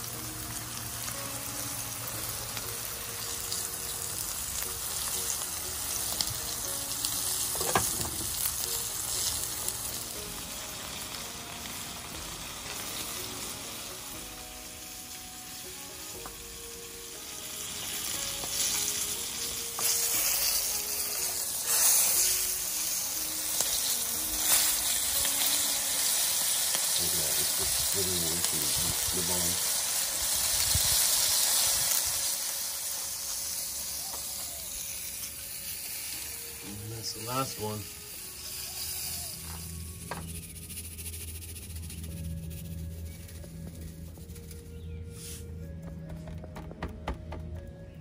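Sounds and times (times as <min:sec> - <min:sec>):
fish sizzling in hot oil: 0:00.0 - 0:44.1.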